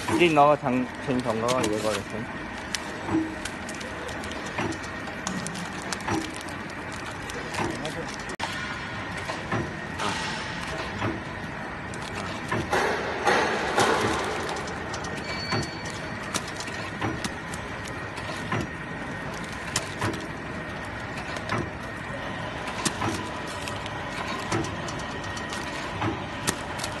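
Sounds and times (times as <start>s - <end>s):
machine clacking: 0.0s - 21.8s, 22.6s - 27.0s
faint machine whine: 0.0s - 27.0s
machine running: 0.0s - 27.0s.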